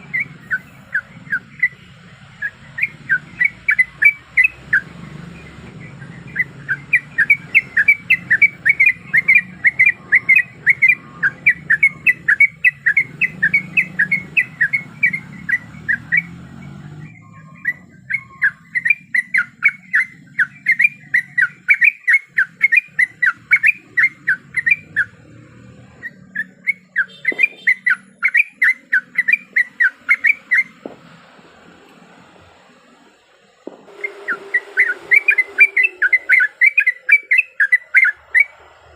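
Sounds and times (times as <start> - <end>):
bird whistling song: 0.0 - 30.8, 33.6 - 38.9.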